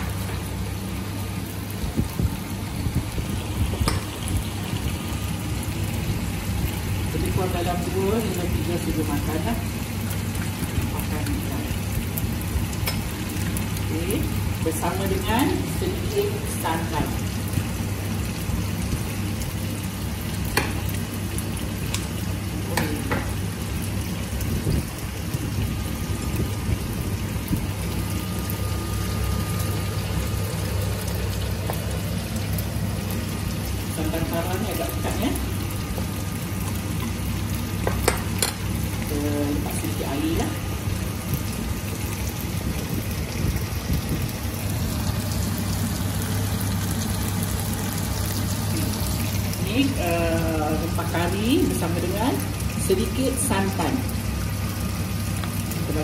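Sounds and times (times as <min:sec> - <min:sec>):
low steady hum: 0:00.0 - 0:56.0
tofu sizzling in hot oil: 0:00.0 - 0:56.0.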